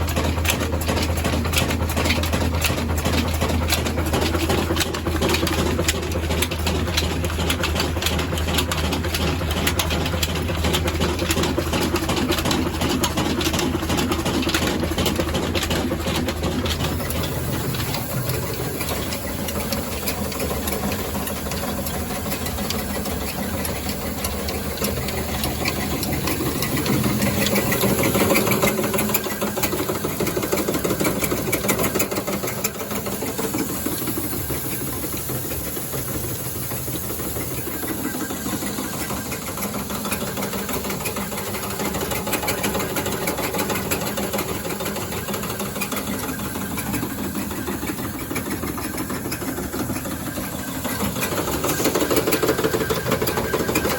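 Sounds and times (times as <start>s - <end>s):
diesel engine clattering: 0.0s - 53.9s
engine hiss: 0.0s - 53.9s.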